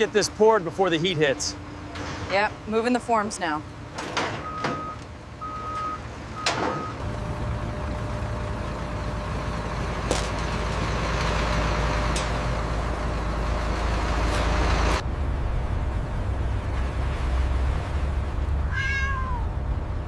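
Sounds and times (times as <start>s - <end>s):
truck engine running: 0.0s - 18.7s.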